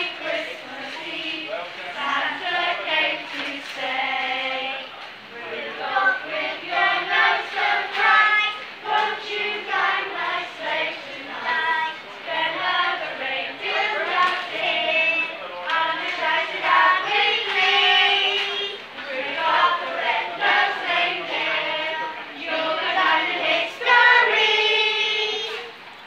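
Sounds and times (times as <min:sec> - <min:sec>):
children's choir singing: 0:00.0 - 0:25.8.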